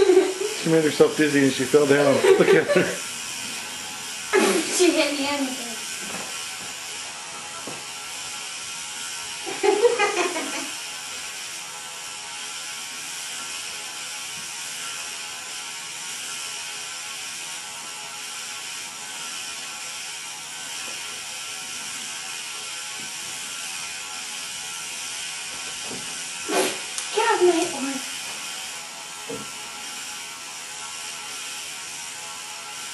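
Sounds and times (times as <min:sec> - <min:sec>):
small motor whirring: 0:00.0 - 0:32.9.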